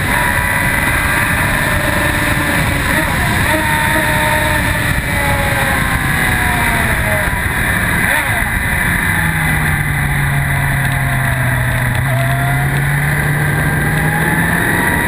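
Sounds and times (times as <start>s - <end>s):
motorcycle engine revving hard: 0.0s - 15.0s
wind rush on microphone: 0.0s - 15.0s.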